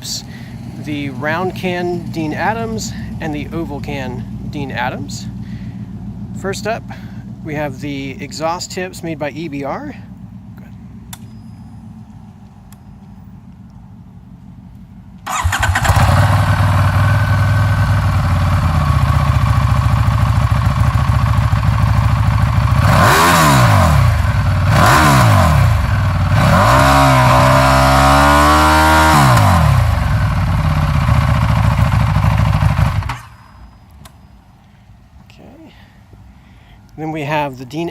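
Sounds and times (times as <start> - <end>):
motorcycle engine idling and revving: 0.0 - 36.4.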